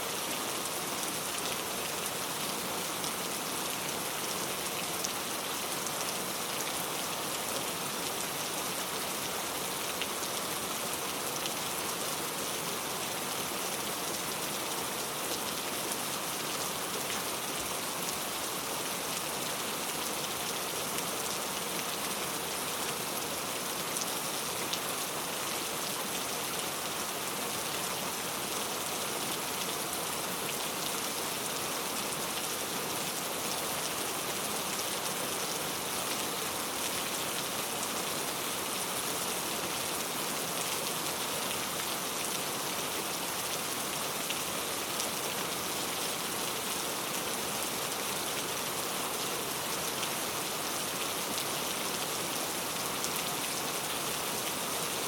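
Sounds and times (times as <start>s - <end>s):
steady rain hissing: 0.0s - 55.0s.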